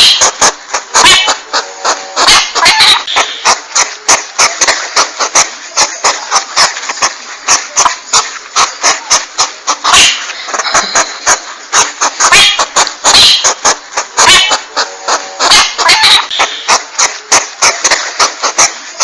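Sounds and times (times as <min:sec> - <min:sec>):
hedgehog clicking call: 0:00.0 - 0:19.0.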